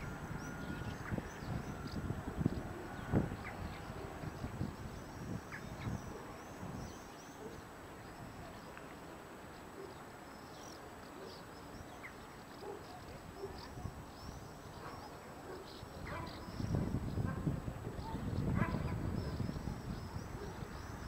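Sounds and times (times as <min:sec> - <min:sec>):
birds chirping: 0:00.0 - 0:21.0
faint outdoor background noise: 0:00.0 - 0:21.0.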